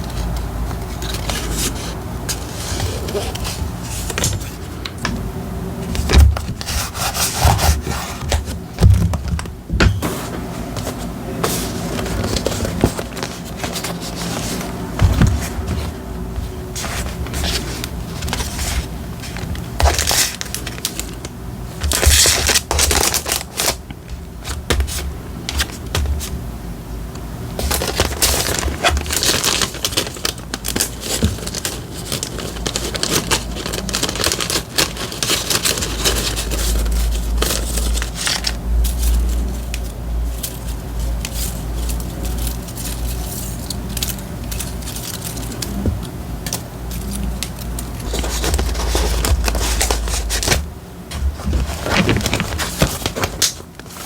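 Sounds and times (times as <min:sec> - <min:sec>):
paper rustling and crinkling: 0:00.0 - 0:05.2, 0:05.8 - 0:26.4, 0:27.6 - 0:54.0.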